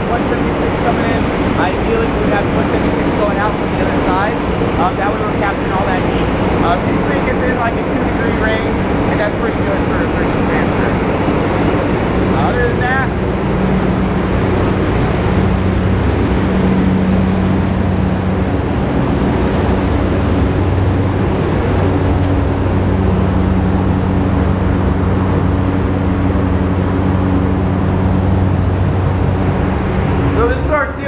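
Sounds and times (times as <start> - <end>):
diesel generators droning: 0.0 - 31.0.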